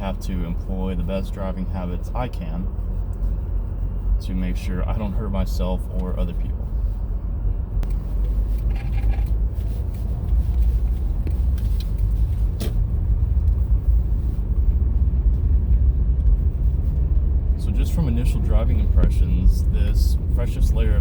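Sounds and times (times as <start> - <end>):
car driving on wet snow: 0.0 - 21.0.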